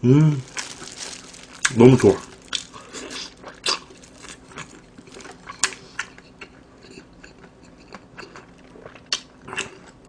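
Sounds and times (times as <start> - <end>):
chewing crispy fried chicken: 0.4 - 10.0.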